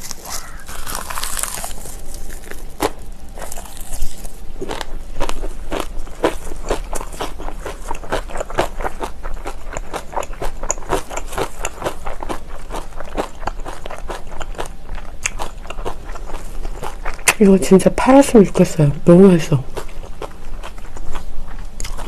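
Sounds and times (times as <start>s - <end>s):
chewing crunchy food: 0.0s - 17.7s, 19.6s - 22.0s.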